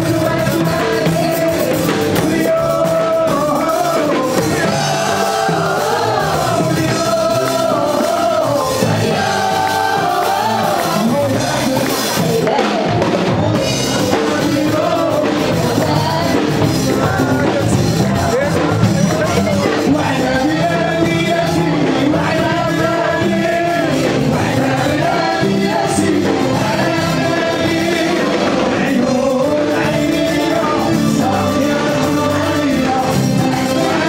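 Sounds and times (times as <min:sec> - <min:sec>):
drums: 0:00.0 - 0:34.0
person singing: 0:00.0 - 0:34.0
upbeat band music: 0:00.0 - 0:34.0.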